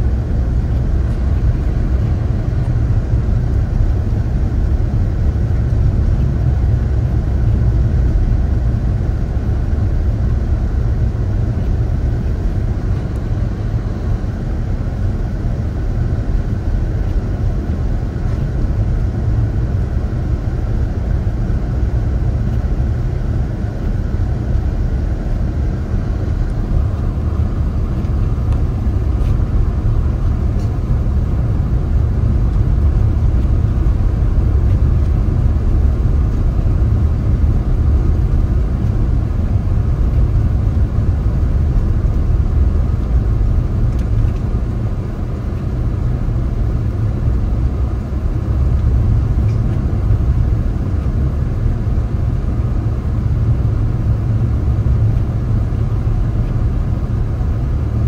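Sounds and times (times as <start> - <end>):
car driving on snowy road: 0.0 - 58.0.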